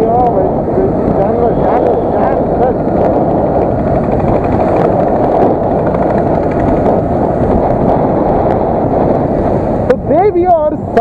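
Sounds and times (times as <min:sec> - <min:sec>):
motorcycle riding: 0:00.0 - 0:11.0
wind rush: 0:00.0 - 0:11.0.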